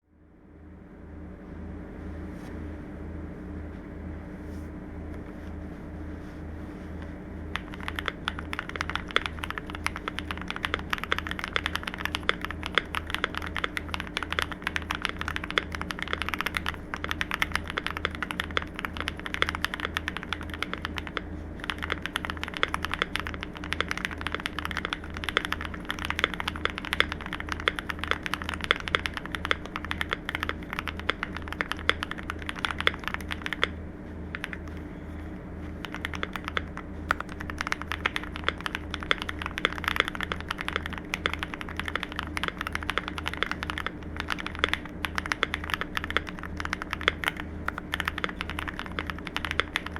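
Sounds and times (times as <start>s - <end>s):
steady low hum: 0.0s - 49.9s
fast mechanical keyboard typing: 7.5s - 34.9s, 35.6s - 49.9s.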